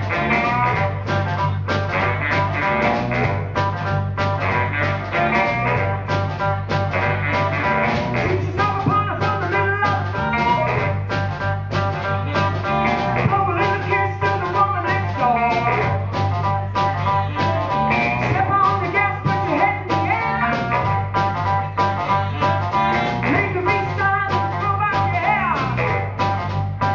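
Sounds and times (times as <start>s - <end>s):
baritone saxophone: 0.0s - 26.9s
drum kit: 0.0s - 26.9s
electric bass guitar: 0.0s - 26.9s
live funk band playing: 0.0s - 26.9s.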